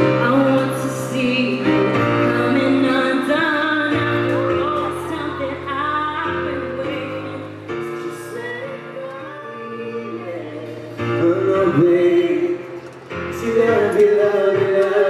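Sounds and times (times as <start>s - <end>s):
electric keyboard chords: 0.0s - 15.0s
person singing: 0.0s - 15.0s.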